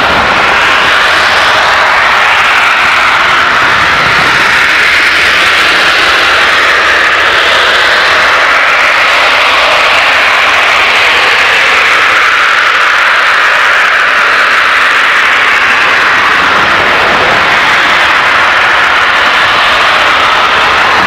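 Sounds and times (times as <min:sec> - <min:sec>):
gas venting loud rushing hiss: 0:00.0 - 0:21.0.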